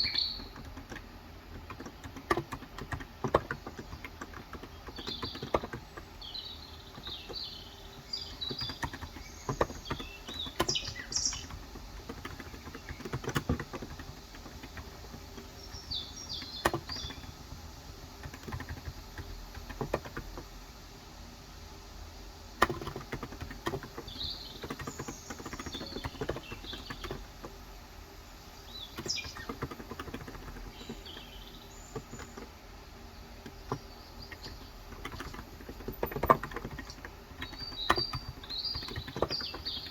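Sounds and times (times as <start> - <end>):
keyboard keystrokes: 0.0 - 20.5, 22.6 - 27.6, 28.8 - 32.6, 33.3 - 39.9
small birds chirping: 0.0 - 39.9.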